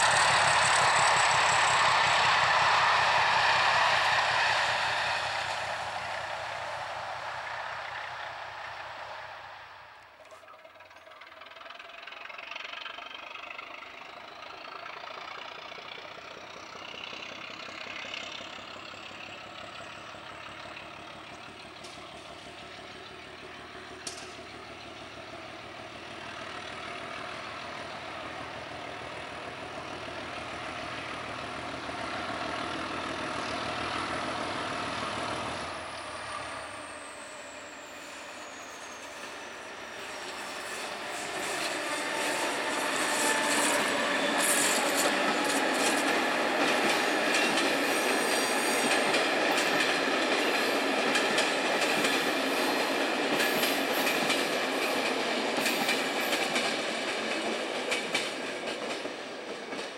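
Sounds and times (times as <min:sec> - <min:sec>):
diesel locomotive engine whining: 0:00.0 - 0:59.9.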